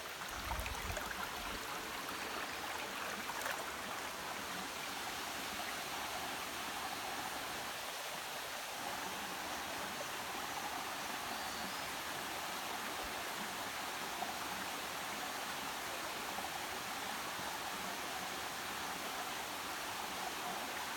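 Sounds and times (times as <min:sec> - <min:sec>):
forest stream rushing: 0:00.0 - 0:20.9.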